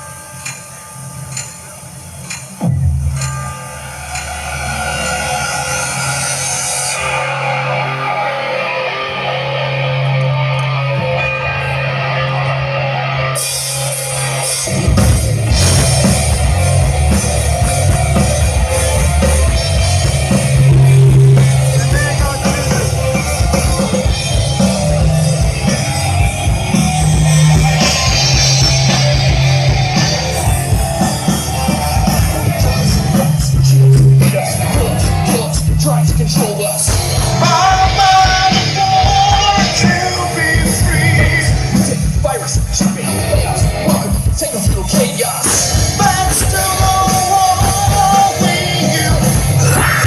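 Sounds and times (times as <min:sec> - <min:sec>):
rock music with drums and guitar: 0:00.0 - 0:50.0.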